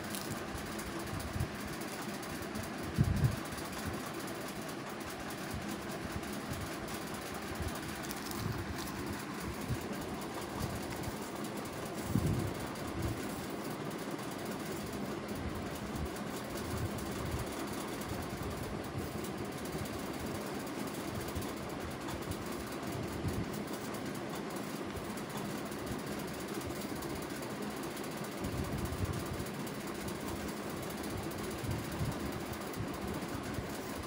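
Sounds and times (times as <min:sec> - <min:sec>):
continuous hiss: 0:00.0 - 0:34.0
low mechanical hum: 0:00.0 - 0:34.0.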